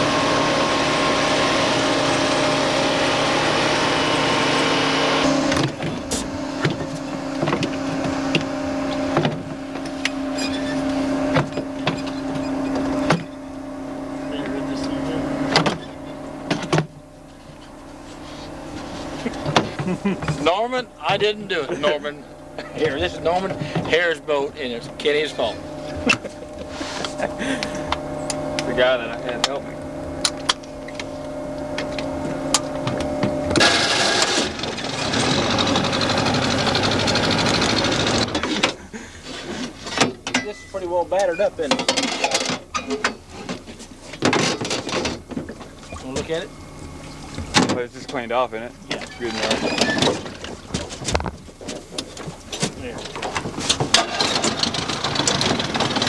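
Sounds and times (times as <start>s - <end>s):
boat motor humming: 0.0s - 56.0s.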